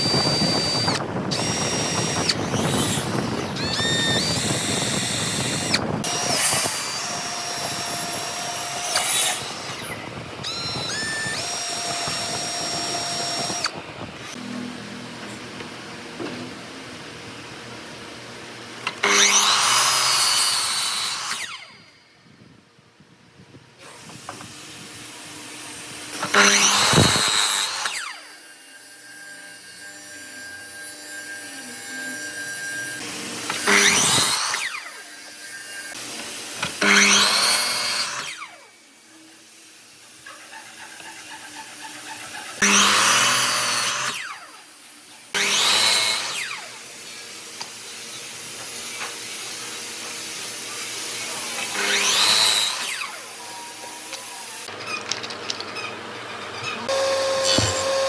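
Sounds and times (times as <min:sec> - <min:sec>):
power tool cutting wood: 0:00.0 - 0:17.0, 0:18.1 - 0:21.9, 0:23.8 - 0:58.0.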